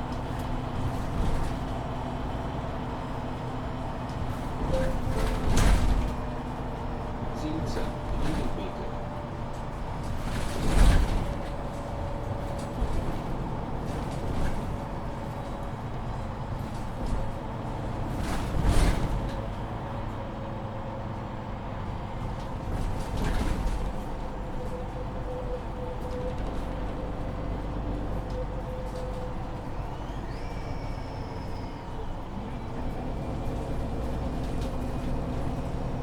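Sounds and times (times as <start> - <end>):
bus drivetrain whine: 0.0 - 36.0.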